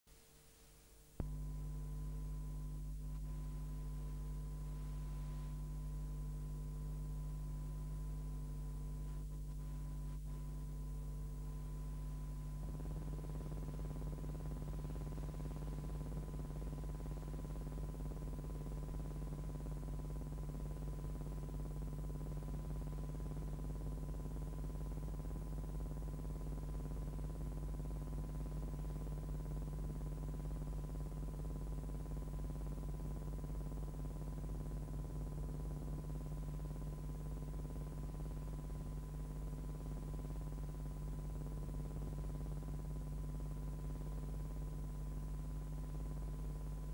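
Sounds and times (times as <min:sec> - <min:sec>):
electrical hum: 0:00.1 - 0:46.9.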